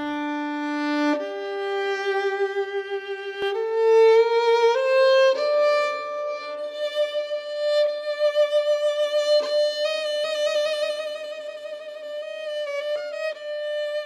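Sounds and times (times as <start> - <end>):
violin playing slow melody: 0.0 - 14.0.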